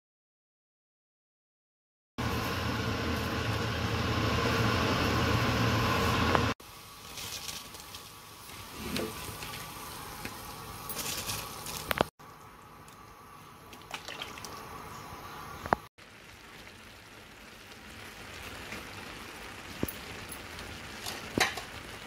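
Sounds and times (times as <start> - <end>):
liquid boiling in pot: 2.2 - 22.0.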